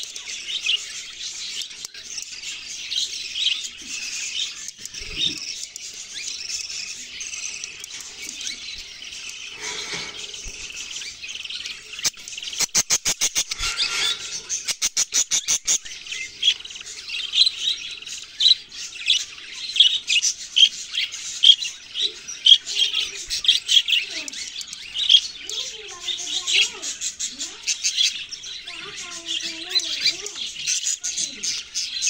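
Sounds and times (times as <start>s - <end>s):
chicks chirping begging calls: 0.0s - 32.0s.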